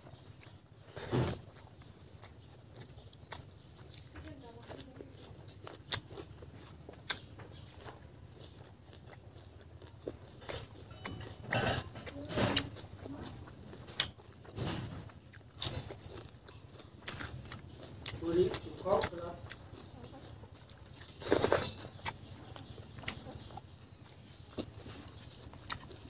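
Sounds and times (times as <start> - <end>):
person chewing: 0.0 - 26.0.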